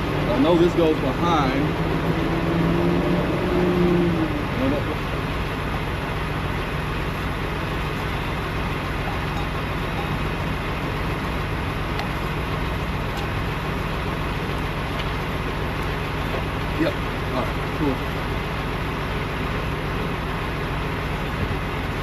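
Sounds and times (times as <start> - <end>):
diesel truck engine idling: 0.0 - 2.6, 3.8 - 22.0.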